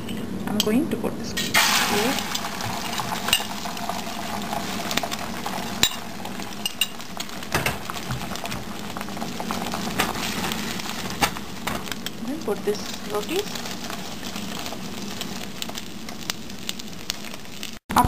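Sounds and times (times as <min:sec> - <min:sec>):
egg sizzling in a pan: 0:01.4 - 0:17.9.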